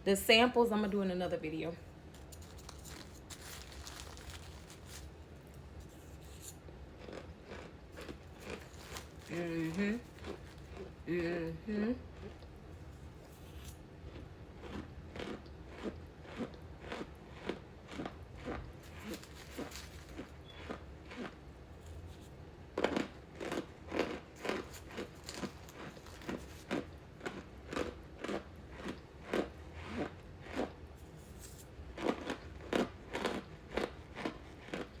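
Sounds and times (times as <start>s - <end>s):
person chewing crunchy food: 2.1s - 11.1s, 12.0s - 35.0s.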